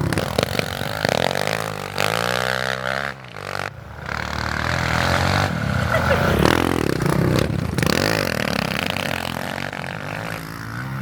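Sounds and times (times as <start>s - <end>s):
small motorbike engine revving: 0.0s - 11.0s.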